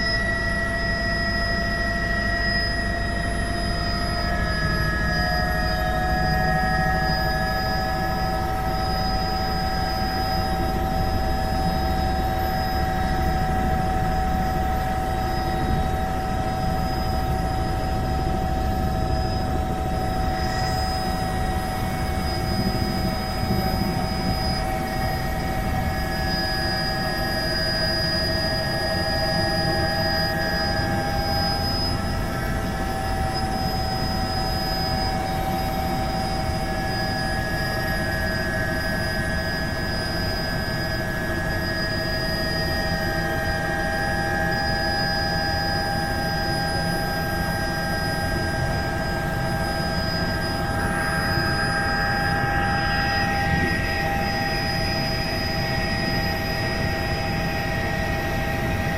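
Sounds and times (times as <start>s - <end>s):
helicopter rotor and engine rumble: 0.0s - 58.9s
high whine: 0.0s - 58.9s.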